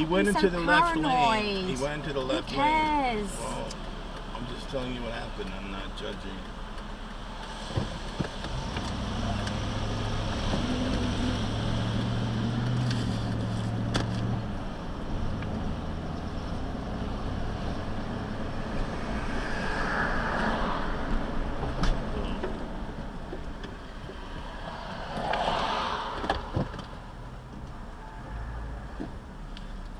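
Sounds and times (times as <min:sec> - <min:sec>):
car engine hum: 0:00.0 - 0:28.0
road and tyre noise: 0:00.0 - 0:29.9.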